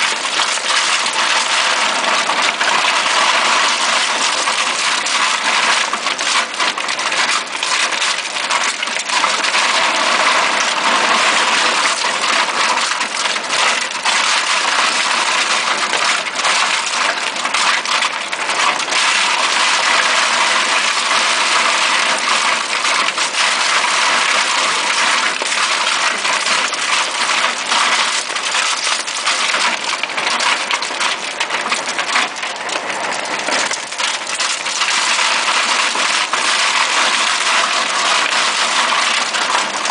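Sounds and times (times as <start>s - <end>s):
grinder shredding meat: 0.0s - 39.9s.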